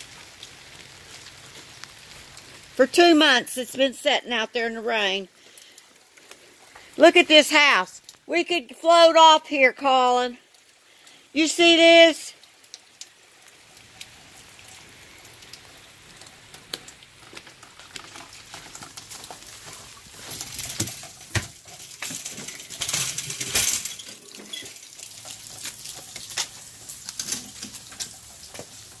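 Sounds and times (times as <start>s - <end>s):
rain falling: 0.0s - 29.0s
water splashing and dripping: 0.0s - 29.0s.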